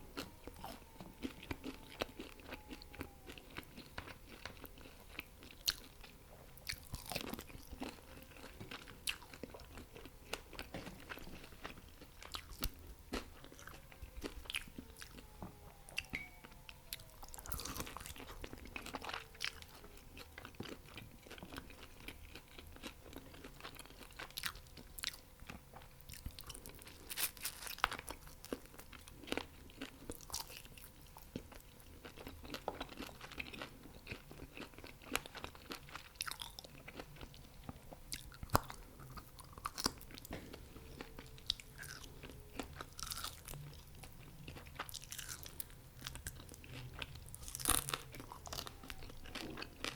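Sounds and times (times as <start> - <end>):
crunching and chewing fried food: 0.0 - 49.9.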